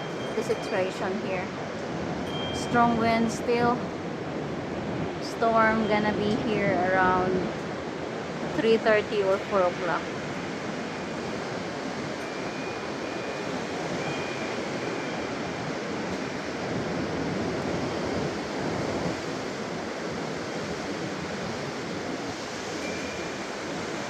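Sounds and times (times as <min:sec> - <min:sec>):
strong wind blowing: 0:00.0 - 0:24.0.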